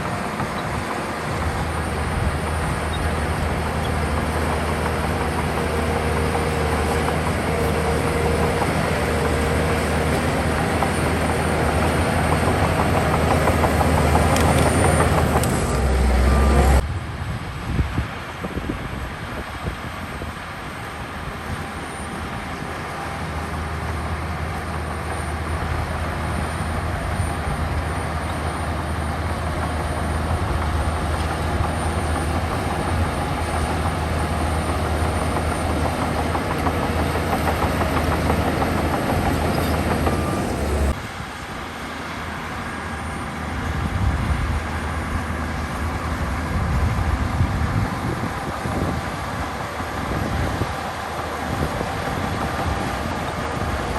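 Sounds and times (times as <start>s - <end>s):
diesel engine of heavy machinery: 0.0s - 53.9s.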